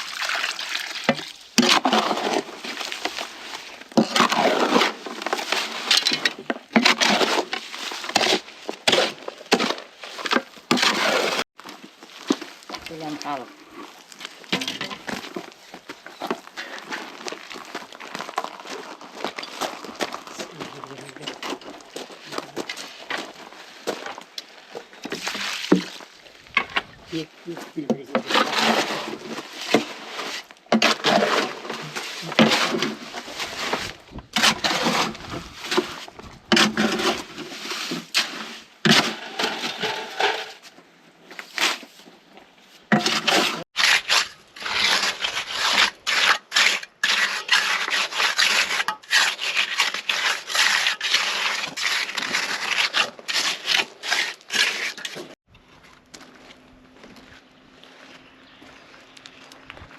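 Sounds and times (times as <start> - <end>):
gritty scraping and crunching: 1.0 - 59.9.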